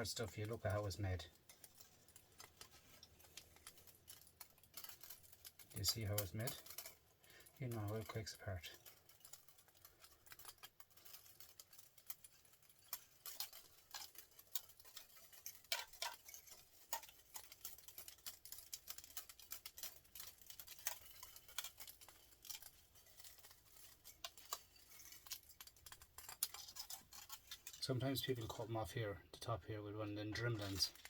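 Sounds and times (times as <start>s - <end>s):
metal parts clicking and tapping: 0.0s - 28.8s, 30.0s - 31.0s.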